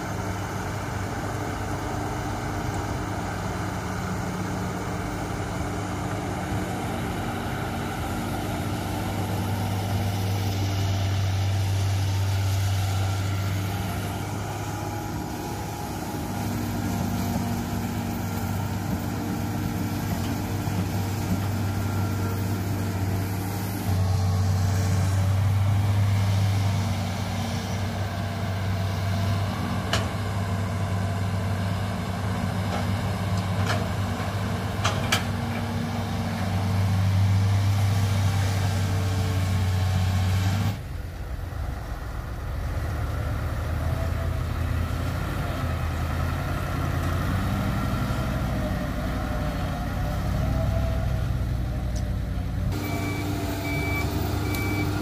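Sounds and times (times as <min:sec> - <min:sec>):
excavator diesel engine running: 0:00.0 - 0:55.0
heavy diesel engine running: 0:00.0 - 0:55.0.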